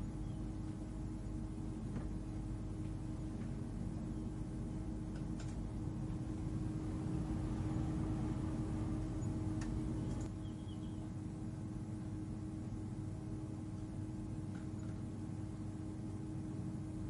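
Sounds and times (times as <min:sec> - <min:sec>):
deep droning hum: 0:00.0 - 0:17.0.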